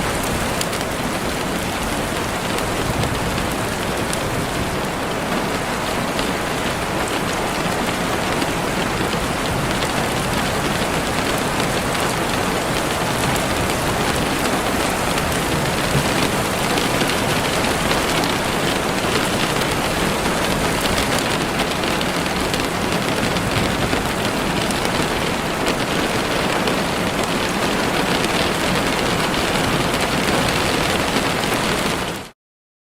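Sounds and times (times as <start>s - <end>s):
heavy rain on leaves: 0.0s - 32.4s.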